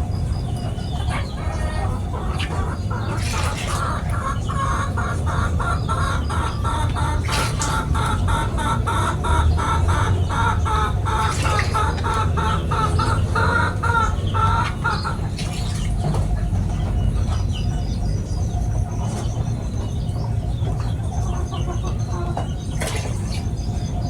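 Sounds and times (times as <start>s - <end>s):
small birds chirping: 0.0s - 24.0s
chicken clucking: 0.1s - 24.0s.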